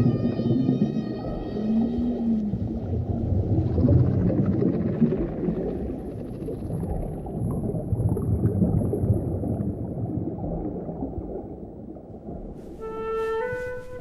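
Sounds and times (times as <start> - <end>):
muffled water gurgling and bubbling: 0.0 - 14.0.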